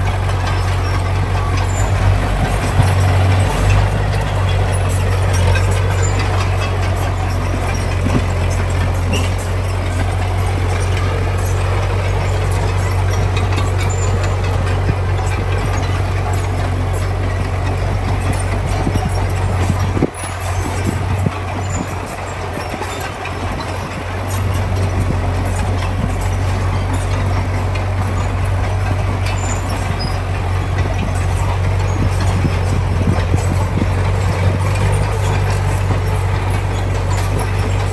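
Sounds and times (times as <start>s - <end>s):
diesel engine running: 0.0s - 37.9s
faint clicks and rattles: 0.0s - 37.9s.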